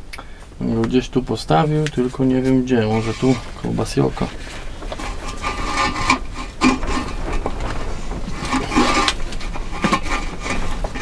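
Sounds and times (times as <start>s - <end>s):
seedling tray rustling and scraping: 1.5s - 11.0s
pots rubbing and knocking: 1.9s - 11.0s.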